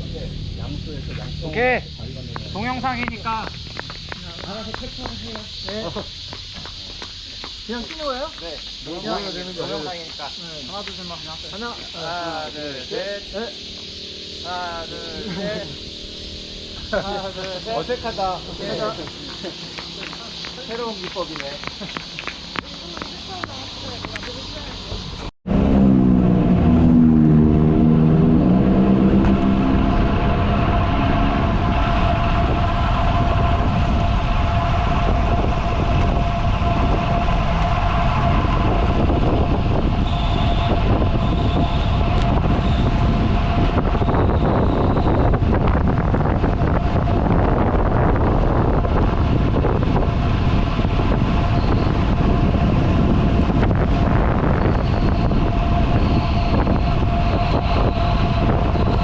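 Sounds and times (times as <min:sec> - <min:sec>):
thin steady whine: 0:00.0 - 0:25.3, 0:26.2 - 0:59.0
pitched drone: 0:00.0 - 0:59.0
wind rushing over microphone: 0:00.0 - 0:59.0.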